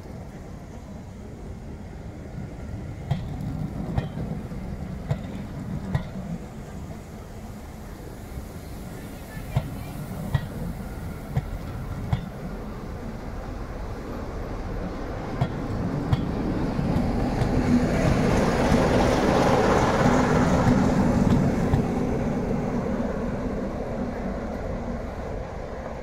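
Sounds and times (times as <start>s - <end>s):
train passing rumble: 0.0s - 26.0s.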